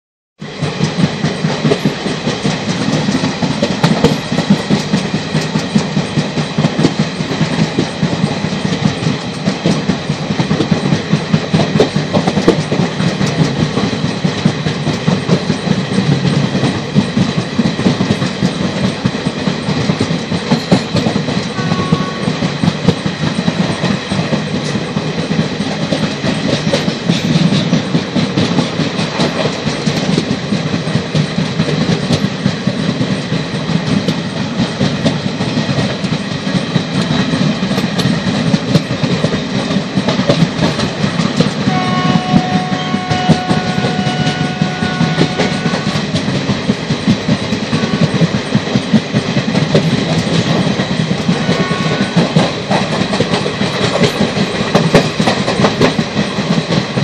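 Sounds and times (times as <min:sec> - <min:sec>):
train wheels rumbling on rails: 0:00.4 - 0:57.0
clatter of clicks: 0:00.8 - 0:21.6, 0:22.2 - 0:42.6, 0:43.3 - 0:57.0.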